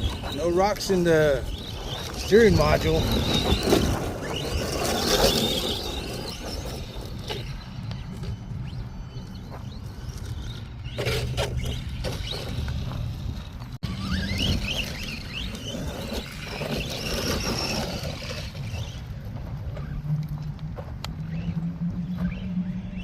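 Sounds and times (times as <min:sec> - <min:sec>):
electric motor whining: 0:00.0 - 0:19.1.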